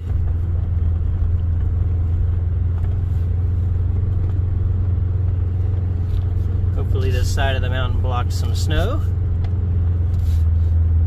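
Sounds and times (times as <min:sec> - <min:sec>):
off-road vehicle engine droning: 0:00.0 - 0:11.0.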